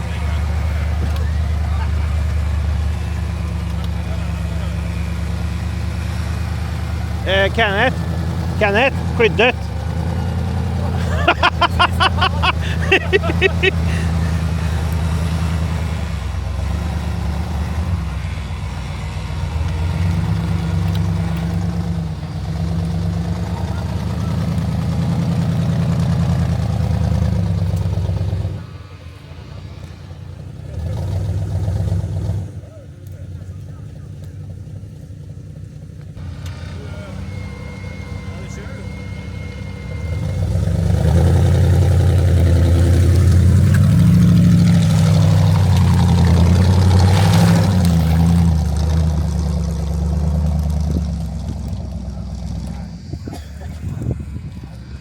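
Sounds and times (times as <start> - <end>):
jeep engine running: 0.0 - 55.0.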